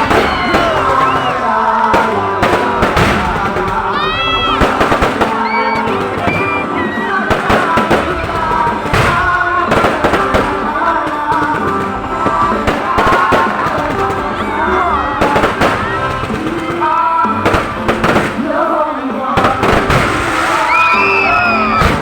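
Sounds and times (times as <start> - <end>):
fireworks bangs: 0.0 - 22.0
loud music with melody: 0.0 - 22.0.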